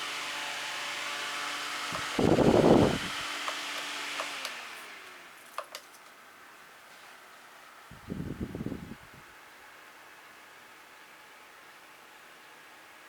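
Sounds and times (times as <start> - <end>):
desk fan motor hum and hiss: 0.0 - 13.0.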